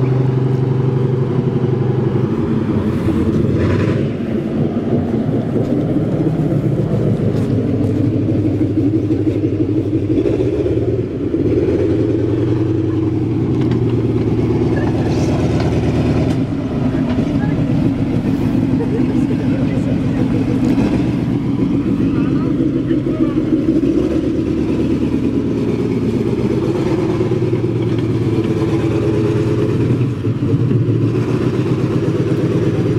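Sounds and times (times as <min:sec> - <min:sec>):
tank driving on gravel: 0:00.0 - 0:32.9
tank engine rumbling: 0:00.0 - 0:32.9.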